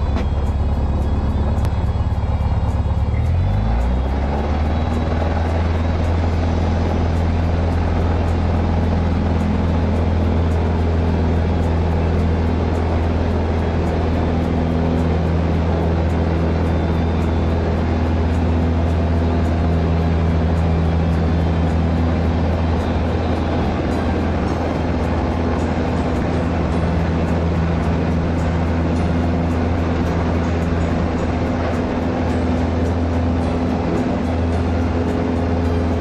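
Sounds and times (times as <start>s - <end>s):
aircraft engine droning: 0.0s - 36.0s.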